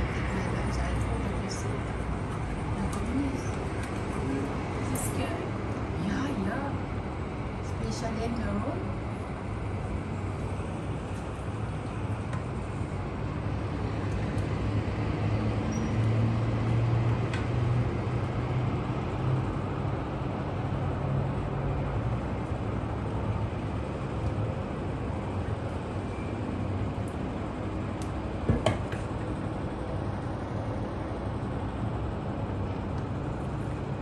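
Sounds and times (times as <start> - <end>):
low street rumble: 0.0 - 34.0.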